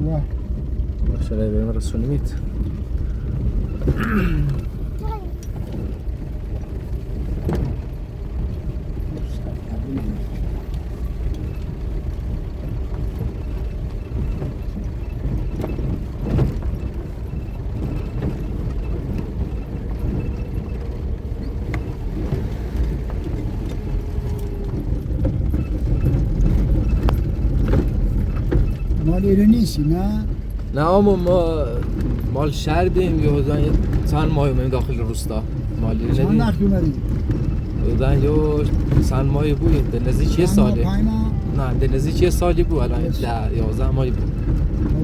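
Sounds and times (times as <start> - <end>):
car engine: 0.0 - 45.0
road rumble: 0.0 - 45.0.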